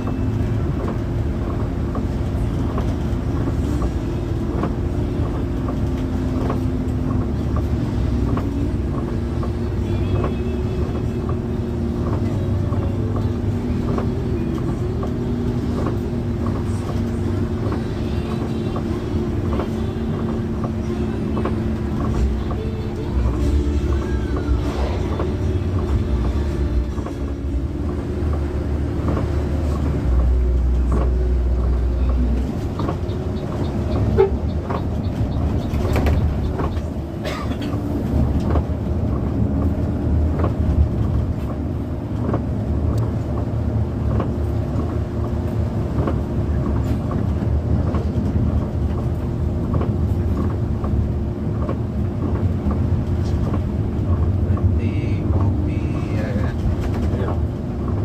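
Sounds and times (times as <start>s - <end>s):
bus engine drone: 0.0s - 58.0s
road rumble: 0.0s - 58.0s.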